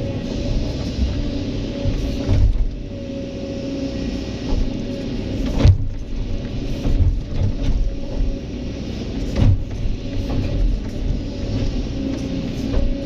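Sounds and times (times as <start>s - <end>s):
excavator diesel engine running: 0.0s - 13.0s
excavator knocks: 0.1s - 2.8s, 4.4s - 8.5s, 9.2s - 13.0s.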